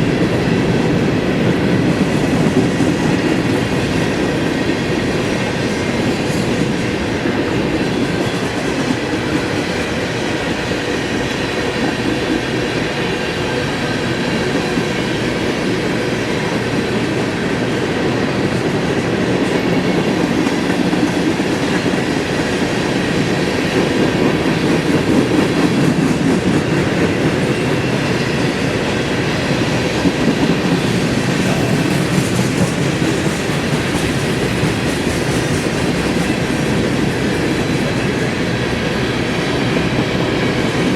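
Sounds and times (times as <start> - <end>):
freight train wheels clattering: 0.0 - 40.9.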